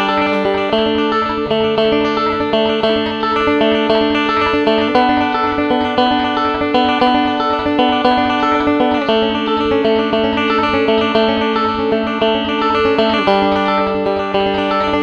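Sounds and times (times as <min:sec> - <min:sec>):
banjo fingerpicked in rolls: 0:00.0 - 0:15.0.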